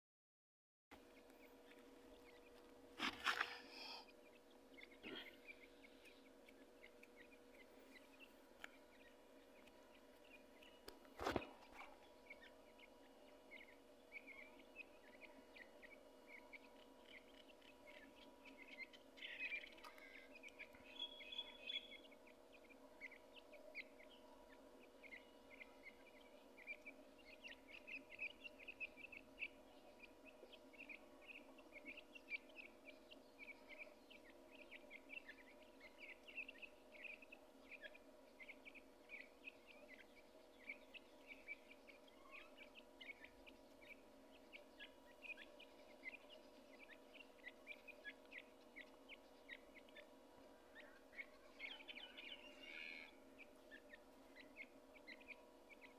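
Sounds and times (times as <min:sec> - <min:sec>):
steady low hum: 0:00.9 - 0:55.9
chicks peeping: 0:01.0 - 0:55.9.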